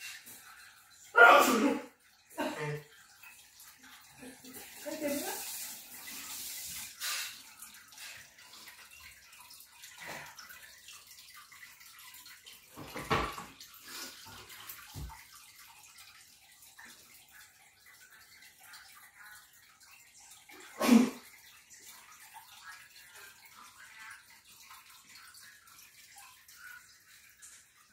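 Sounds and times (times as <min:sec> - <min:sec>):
aquarium water trickling: 0:00.0 - 0:27.9.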